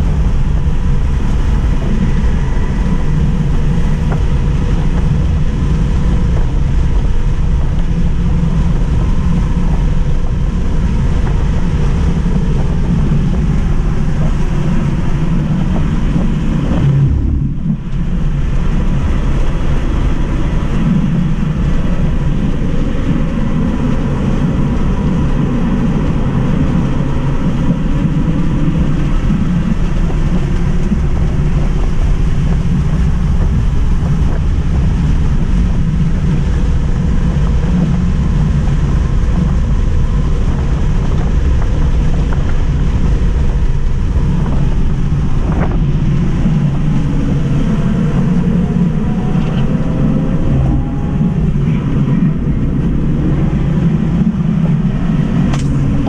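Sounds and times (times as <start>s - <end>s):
road tyre and wind roar in cabin: 0.0s - 56.0s.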